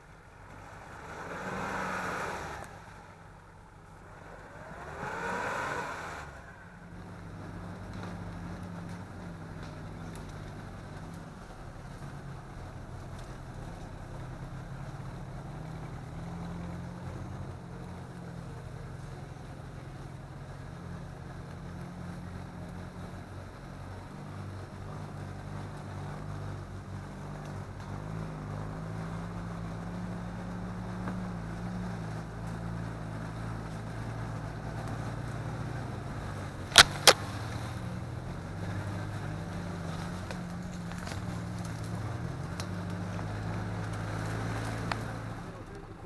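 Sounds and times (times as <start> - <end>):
car engine running at low revs: 0.0 - 46.0.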